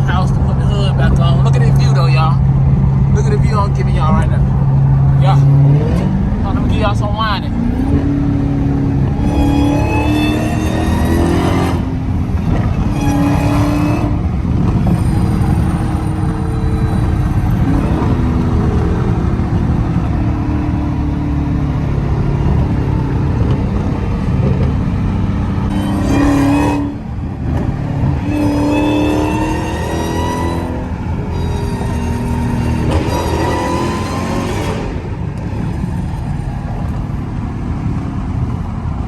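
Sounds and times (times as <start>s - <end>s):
car engine cruising: 0.0s - 39.0s
supercharger whine: 0.0s - 39.0s.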